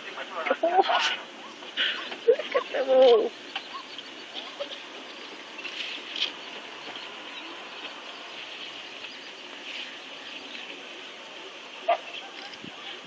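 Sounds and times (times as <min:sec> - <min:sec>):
birds chirping: 0:00.0 - 0:13.0
steady high hiss: 0:00.0 - 0:13.0.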